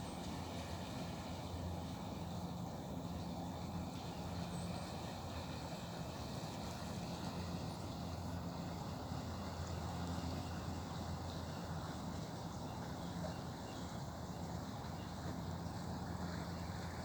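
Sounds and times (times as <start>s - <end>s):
low engine drone: 0.0s - 17.0s
river flowing: 0.0s - 17.0s.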